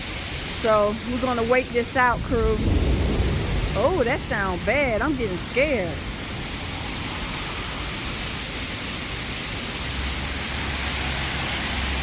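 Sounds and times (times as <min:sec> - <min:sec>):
hail and rain pounding: 0:00.0 - 0:12.0.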